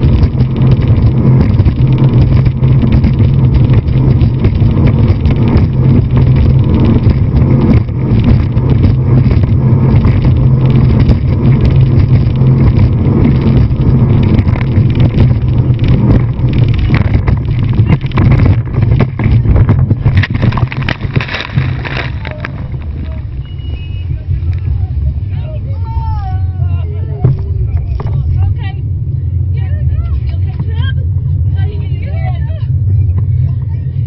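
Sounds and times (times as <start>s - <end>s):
water noise: 0.0s - 29.5s
motorboat engine drone: 0.0s - 34.0s
rushing wind: 0.0s - 34.0s.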